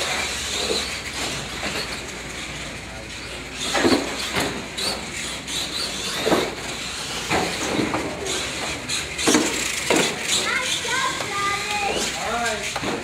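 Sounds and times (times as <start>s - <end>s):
toy truck motor and tyre noise: 0.0s - 13.0s.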